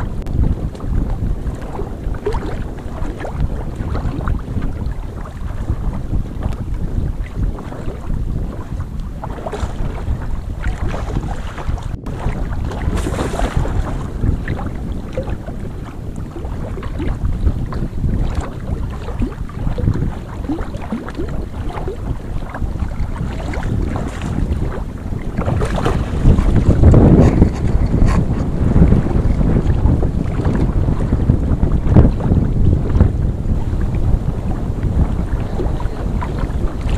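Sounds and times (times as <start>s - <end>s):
lake water lapping: 0.0s - 36.9s
wind buffeting microphone: 0.0s - 36.9s.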